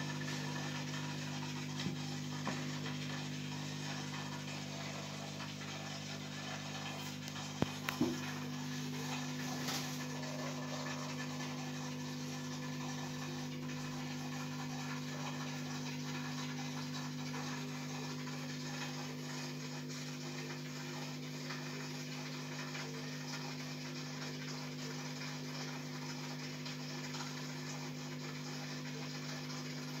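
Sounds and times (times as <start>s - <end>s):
aquarium equipment humming: 0.0s - 30.0s.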